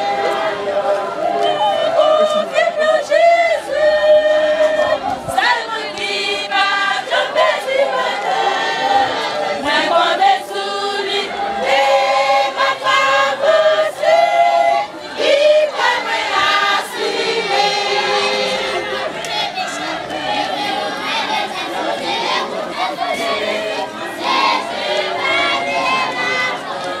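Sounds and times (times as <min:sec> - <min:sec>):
women's choir singing a hymn: 0:00.0 - 0:27.0.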